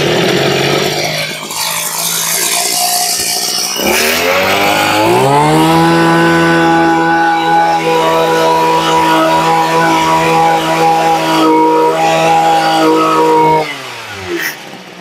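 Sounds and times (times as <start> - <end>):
brush cutter engine running: 0.0 - 15.0.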